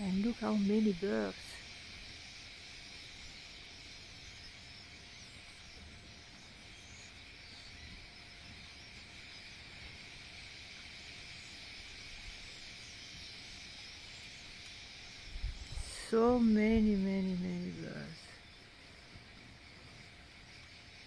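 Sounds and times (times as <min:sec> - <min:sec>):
flock of small birds chattering: 0:00.0 - 0:21.0.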